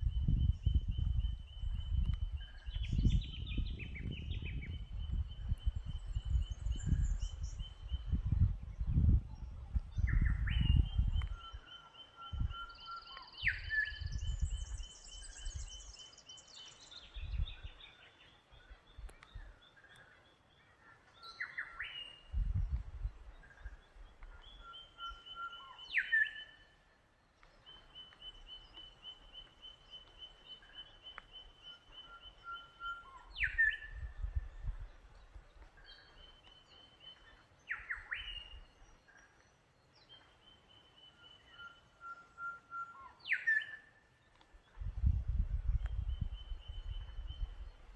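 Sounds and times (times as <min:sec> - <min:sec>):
birds singing: 0:00.0 - 0:47.9.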